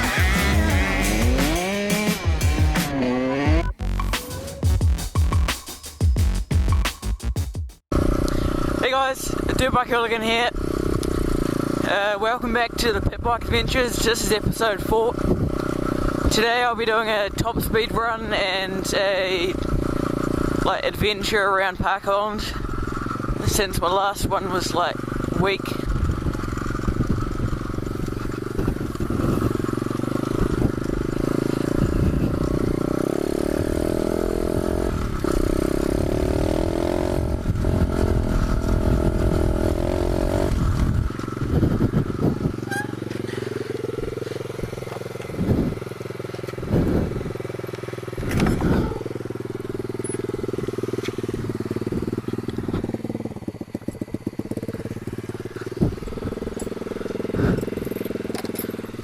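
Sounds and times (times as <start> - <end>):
pit bike engine revving: 0.0 - 4.0, 7.9 - 21.5, 22.2 - 59.0.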